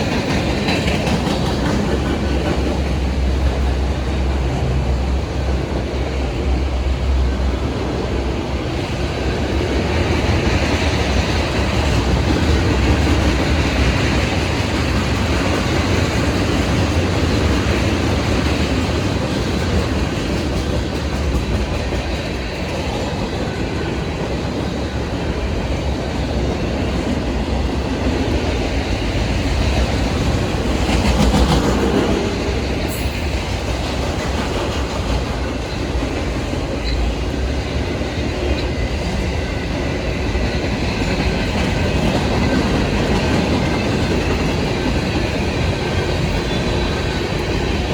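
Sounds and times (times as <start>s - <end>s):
freight train wheels on rails: 0.0s - 47.9s.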